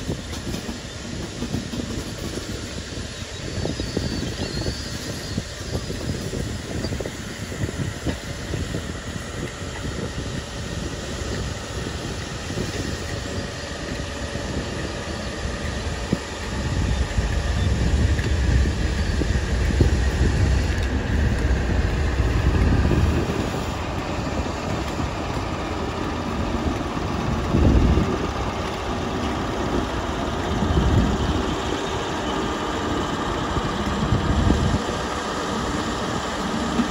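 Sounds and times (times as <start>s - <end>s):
train coaches rolling on rails: 0.0s - 36.9s
diesel engine running: 2.7s - 36.9s.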